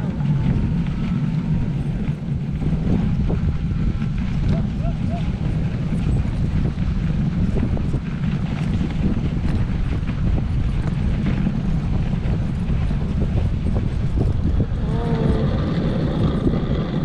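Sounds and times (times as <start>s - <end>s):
sled rumbling over trail: 0.0s - 17.0s
wind on microphone: 0.0s - 17.0s.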